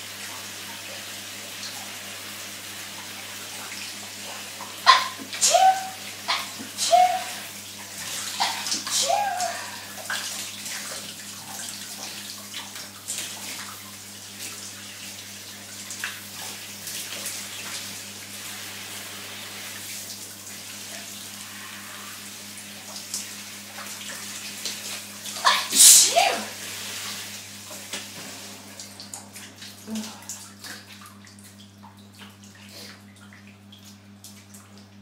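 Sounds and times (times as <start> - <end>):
shower water running: 0.0 - 35.0
water splashes: 0.0 - 35.0.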